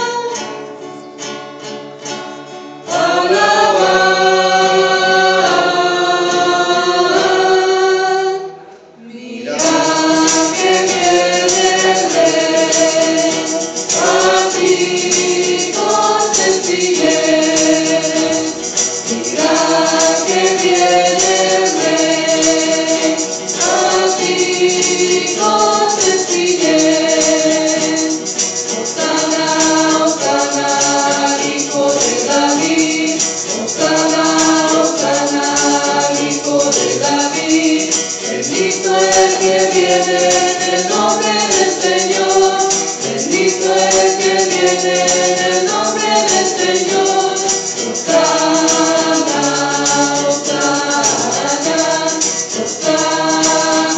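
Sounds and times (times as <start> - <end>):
acoustic guitars strumming: 0.0 - 53.9
choir singing a hymn: 2.8 - 53.9
steady high rattle: 9.6 - 53.9.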